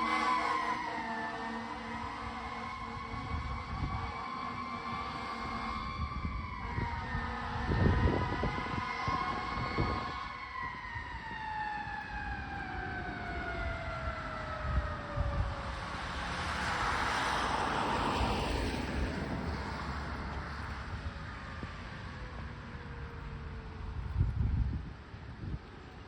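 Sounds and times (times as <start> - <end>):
fire engine siren: 0.0 - 26.0
rushing vehicle noise: 0.0 - 26.0.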